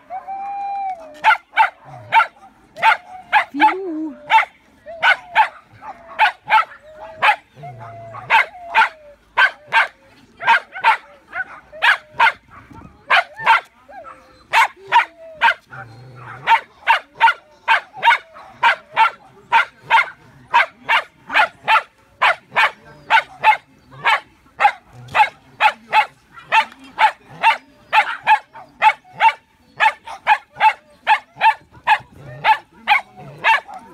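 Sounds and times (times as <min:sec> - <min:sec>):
dog barking: 0:01.2 - 0:07.4, 0:08.1 - 0:13.7, 0:14.5 - 0:15.6, 0:16.2 - 0:33.9.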